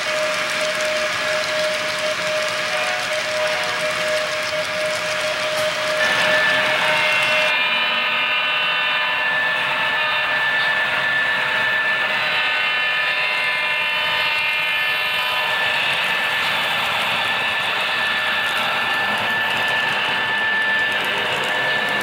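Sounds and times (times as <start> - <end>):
model train mechanical hum: 0.0 - 22.0
model train rolling noise: 0.0 - 22.0.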